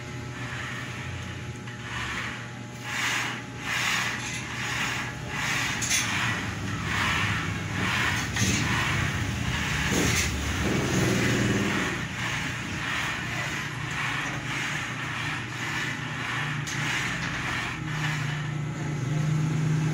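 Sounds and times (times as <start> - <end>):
stepper motor hum: 0.0 - 19.9
bearing rollers rumbling on tubing: 0.3 - 19.2.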